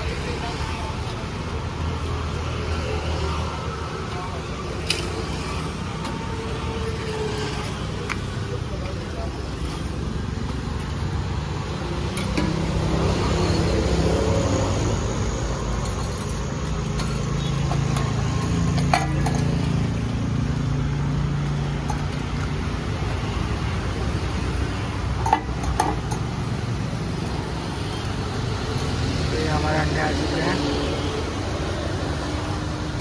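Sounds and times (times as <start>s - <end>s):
street traffic noise: 0.0s - 33.0s.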